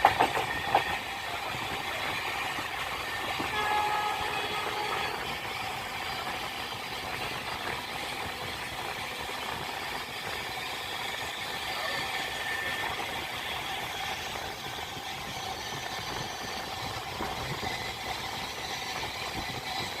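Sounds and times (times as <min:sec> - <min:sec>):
train wheels rumbling and rattling: 0:00.0 - 0:20.0.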